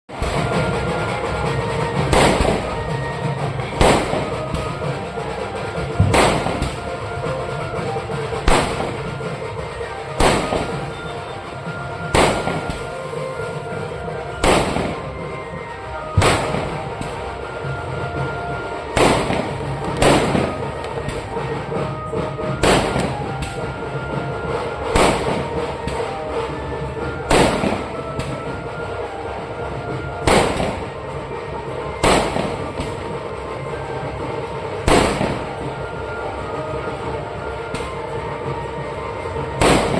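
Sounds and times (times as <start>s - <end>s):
firecracker bangs: 0.1s - 28.8s, 30.0s - 33.4s, 34.3s - 36.2s, 39.5s - 39.9s
steady background noise: 0.1s - 39.9s.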